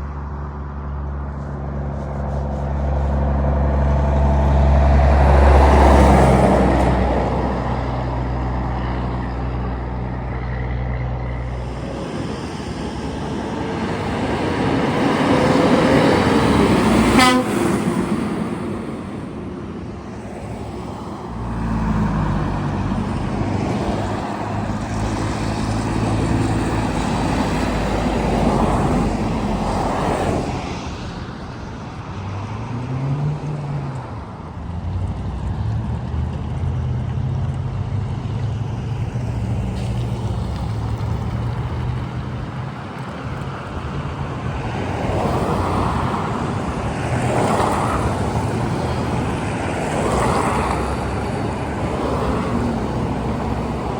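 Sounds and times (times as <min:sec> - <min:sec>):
heavy trucks driving past: 0:00.0 - 0:53.9.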